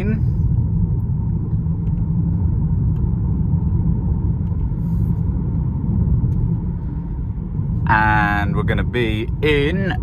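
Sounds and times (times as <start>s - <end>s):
road and tyre rumble in car: 0.0s - 10.0s.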